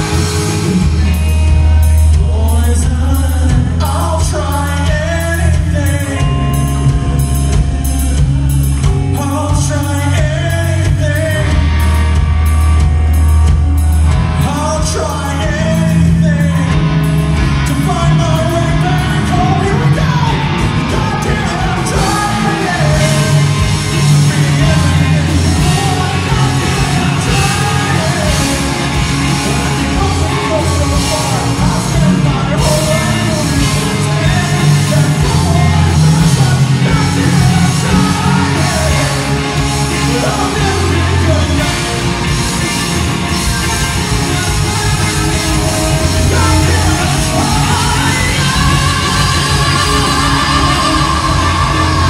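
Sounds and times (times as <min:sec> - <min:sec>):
man singing: 0:00.0 - 0:12.6, 0:14.4 - 0:52.0
drums: 0:00.0 - 0:52.0
electric guitars: 0:00.0 - 0:52.0.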